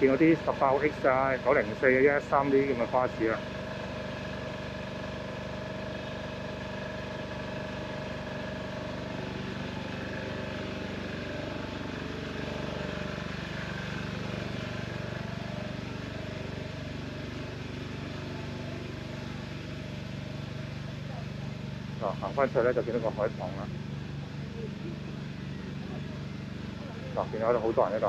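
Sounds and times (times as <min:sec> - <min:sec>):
bus engine hum: 0:00.0 - 0:03.4, 0:06.2 - 0:28.0.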